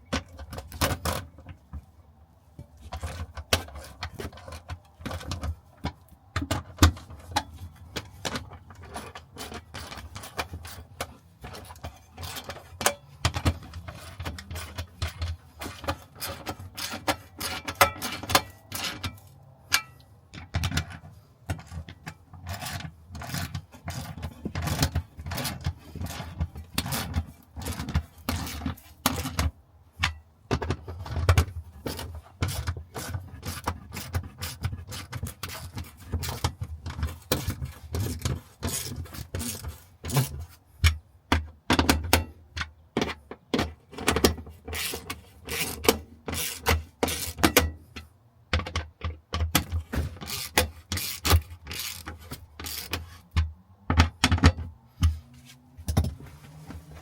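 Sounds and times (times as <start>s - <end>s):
tools and parts clicking and scraping: 0.0s - 57.0s.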